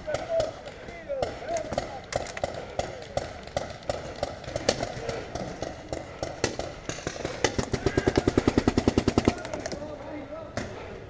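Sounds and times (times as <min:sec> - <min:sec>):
paintball markers firing: 0:00.0 - 0:09.9.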